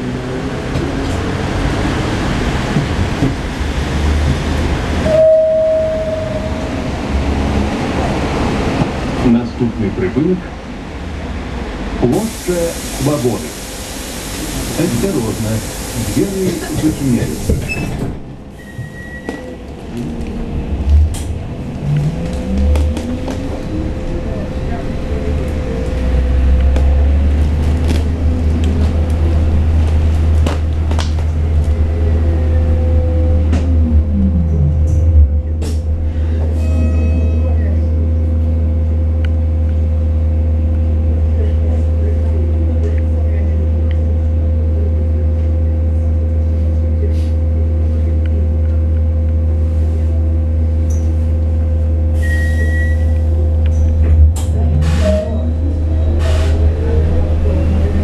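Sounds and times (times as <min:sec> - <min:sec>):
bus cabin rumble and hum: 0:00.0 - 0:58.0.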